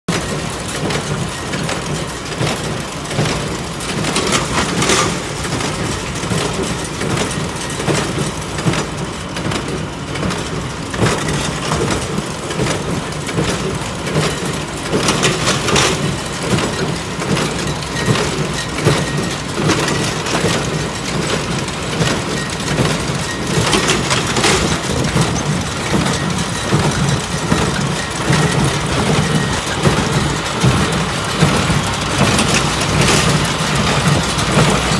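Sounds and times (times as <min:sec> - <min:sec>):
baler mechanism clattering: 0:00.1 - 0:34.9
tractor engine running under load: 0:00.1 - 0:34.9.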